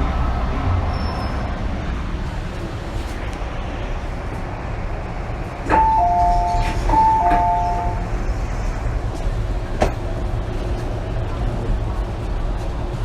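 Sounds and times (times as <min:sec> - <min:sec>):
train equipment rumble: 0:01.8 - 0:13.0.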